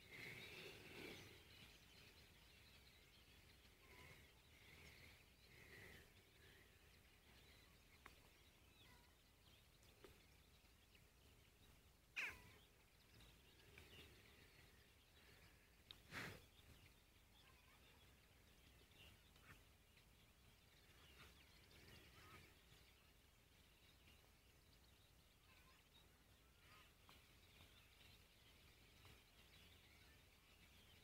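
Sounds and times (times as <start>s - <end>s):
bird calls: 0.0s - 31.0s.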